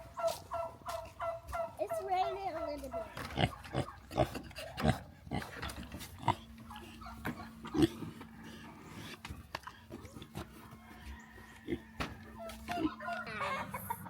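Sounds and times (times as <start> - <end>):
farm animals calling: 0.0 - 14.0
steady low hum: 0.0 - 14.0.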